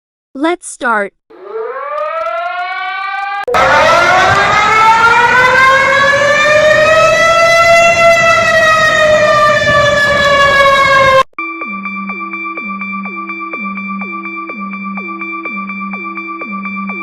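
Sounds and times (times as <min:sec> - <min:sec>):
warning siren wailing: 0:01.3 - 0:17.0.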